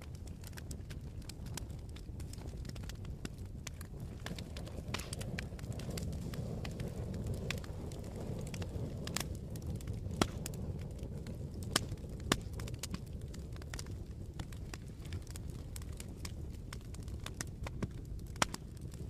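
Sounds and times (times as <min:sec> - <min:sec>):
log fire crackling: 0:00.0 - 0:19.0
sharp pops of fire: 0:00.0 - 0:19.0.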